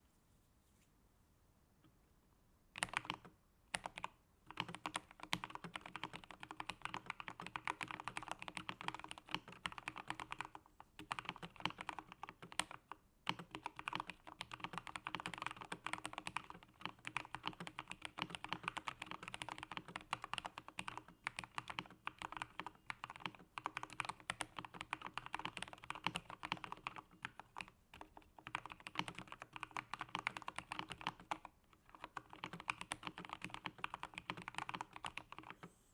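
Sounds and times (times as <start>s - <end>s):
mechanical keyboard typing: 2.8s - 35.6s.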